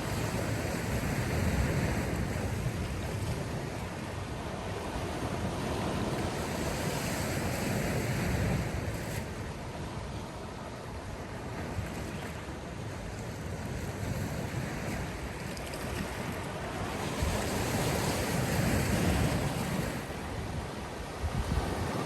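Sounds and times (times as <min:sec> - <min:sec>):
sea waves surging: 0:00.0 - 0:22.0
wind rumble on microphone: 0:00.0 - 0:22.0.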